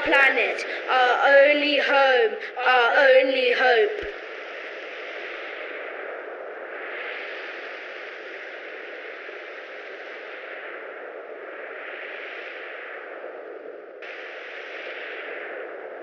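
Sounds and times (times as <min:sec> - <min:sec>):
rushing hiss-like noise: 0:00.0 - 0:16.0.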